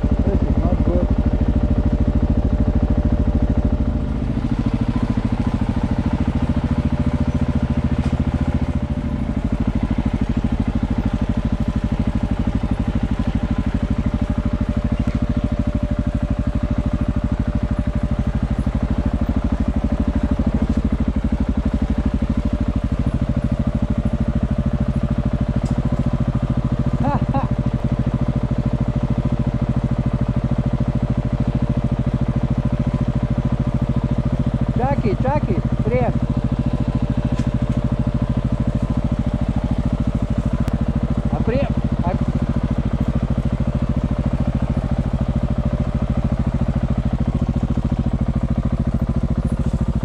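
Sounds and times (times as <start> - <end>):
motorcycle engine at low revs: 0.0 - 50.0.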